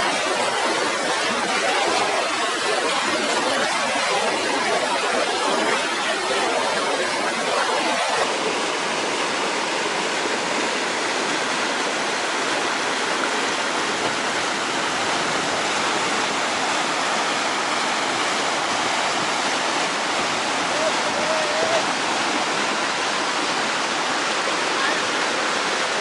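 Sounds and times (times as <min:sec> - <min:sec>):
rushing river water: 0:00.0 - 0:26.0.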